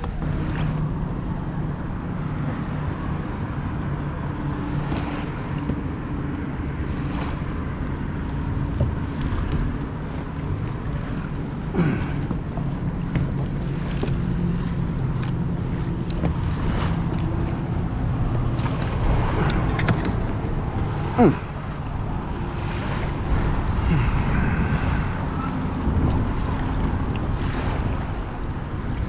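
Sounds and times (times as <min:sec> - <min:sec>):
water splashing around kayak: 0:00.0 - 0:29.0
wind buffeting microphone: 0:00.0 - 0:29.0.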